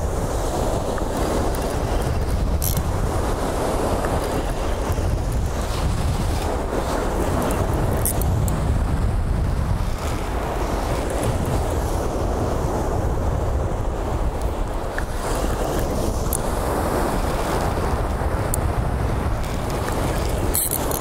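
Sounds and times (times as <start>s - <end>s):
breaking surf: 0.0s - 21.0s
wind buffeting microphone: 0.0s - 21.0s.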